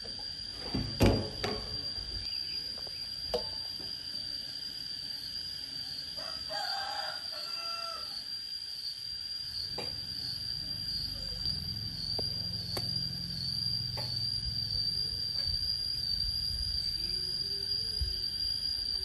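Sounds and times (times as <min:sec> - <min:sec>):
high-pitched whine: 0:00.1 - 0:19.0.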